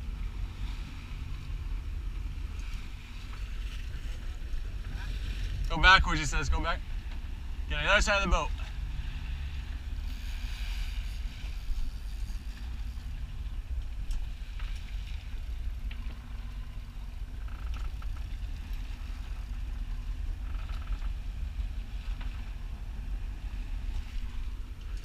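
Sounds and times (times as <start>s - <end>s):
boat engines rumbling: 0.0s - 25.0s
faint wind: 0.0s - 25.0s.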